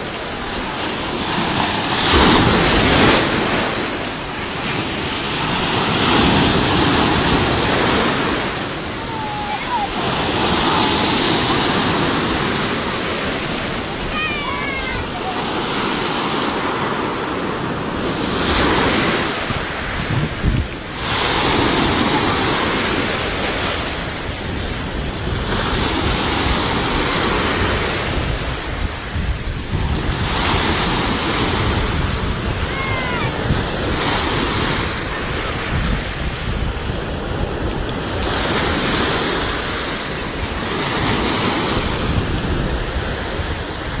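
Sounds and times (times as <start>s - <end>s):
heavy surf waves breaking: 0.0s - 44.0s.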